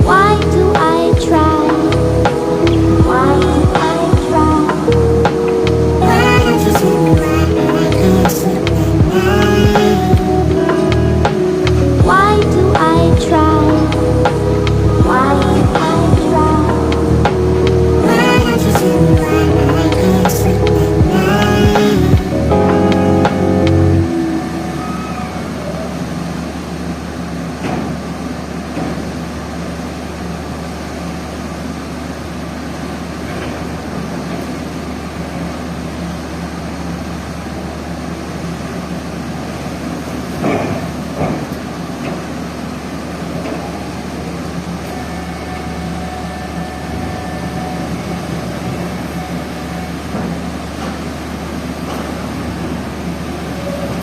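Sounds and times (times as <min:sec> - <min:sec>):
ferry engines droning: 0:00.0 - 0:54.0.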